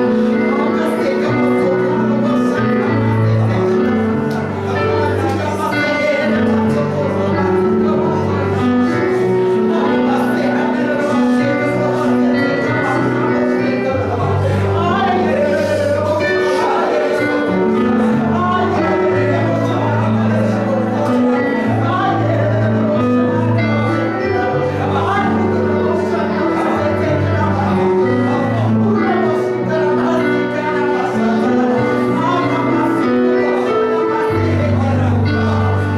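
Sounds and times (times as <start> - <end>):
held keyboard chords: 0.0 - 35.9
voices singing: 0.0 - 35.9.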